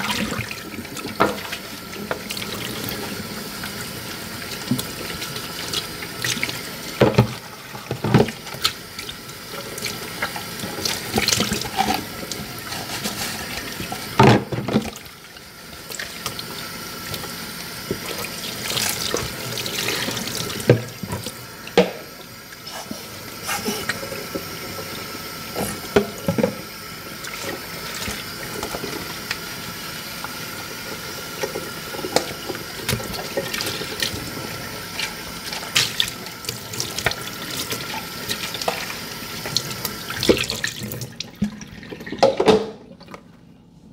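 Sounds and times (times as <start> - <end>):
tap water running: 0.0 - 43.3.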